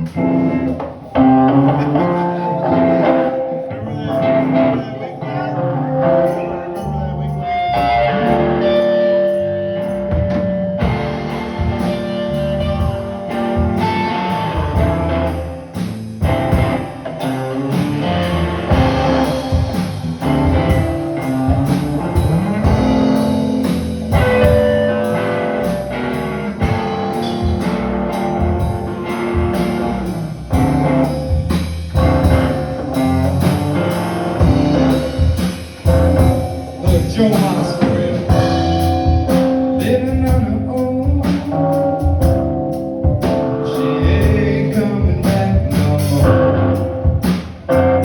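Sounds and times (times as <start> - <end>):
live guitar music: 0.0 - 48.0.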